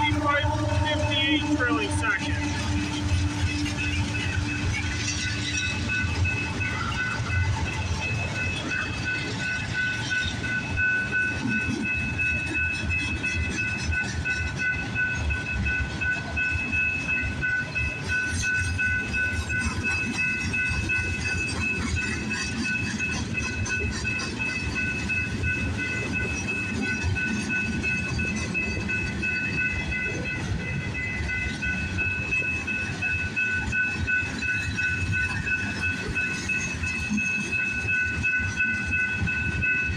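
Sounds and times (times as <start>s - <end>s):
freight train rumbling past: 0.0s - 39.9s
high-pitched ringing tone: 0.0s - 39.9s.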